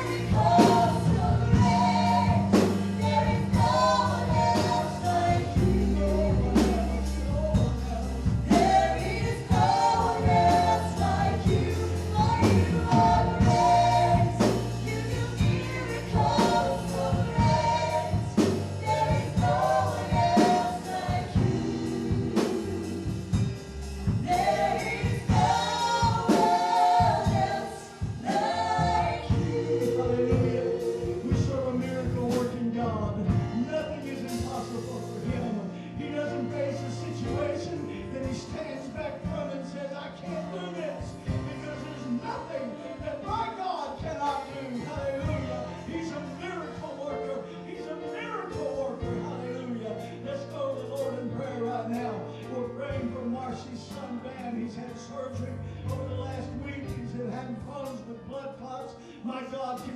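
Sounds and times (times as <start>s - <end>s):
band playing: 0.0s - 53.2s
group singing gospel song: 0.0s - 59.9s.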